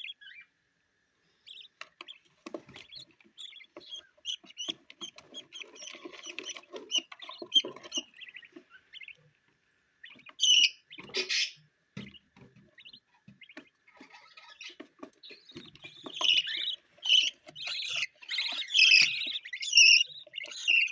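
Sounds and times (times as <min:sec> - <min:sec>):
budgerigar chicks chirping: 0:00.0 - 0:00.5, 0:01.3 - 0:20.9.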